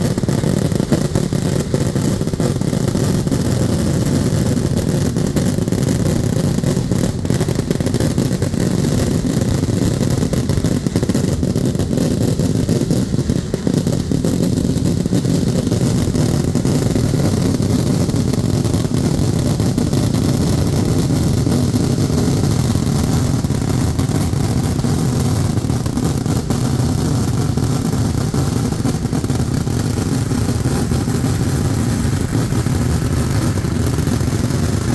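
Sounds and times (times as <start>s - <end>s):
fireworks explosions rumbling: 0.0s - 34.9s
sharp firework cracks: 0.0s - 34.9s.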